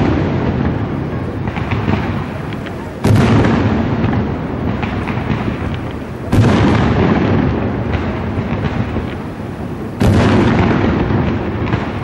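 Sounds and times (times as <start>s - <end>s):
loud firework shell bursts: 0.0s - 12.0s
rumble and crackle of fireworks: 0.0s - 12.0s.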